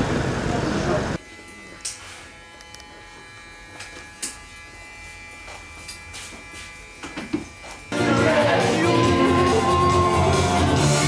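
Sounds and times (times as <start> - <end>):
electric hair clippers humming: 1.2 - 11.0.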